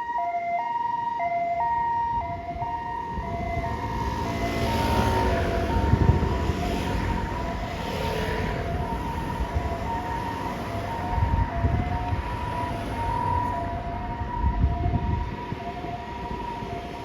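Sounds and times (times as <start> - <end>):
two-tone ambulance siren: 0.0 - 17.0
vehicle engine and road rumble: 0.8 - 17.0.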